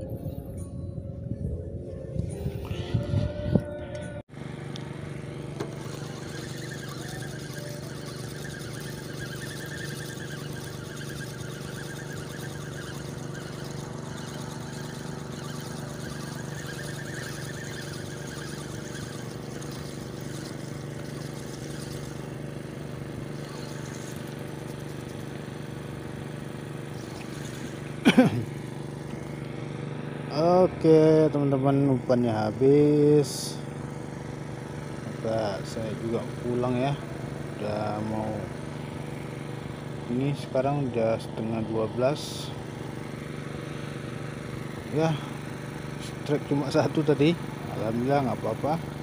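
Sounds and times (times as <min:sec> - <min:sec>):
steady engine drone: 0:00.0 - 0:49.0.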